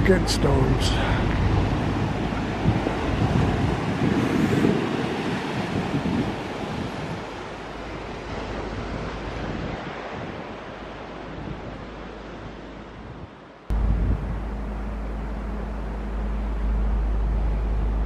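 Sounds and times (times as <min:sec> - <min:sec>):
surf washing over rocks: 0:00.0 - 0:16.8
wind rumbling on microphone: 0:00.0 - 0:18.0.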